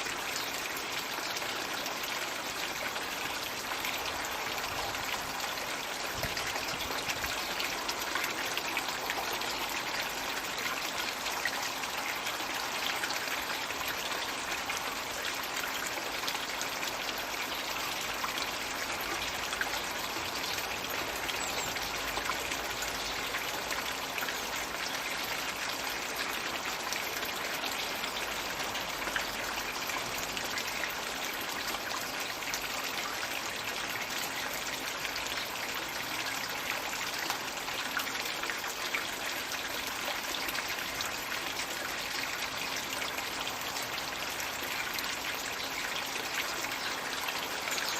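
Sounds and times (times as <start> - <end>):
water pouring into a pond: 0.0 - 47.9.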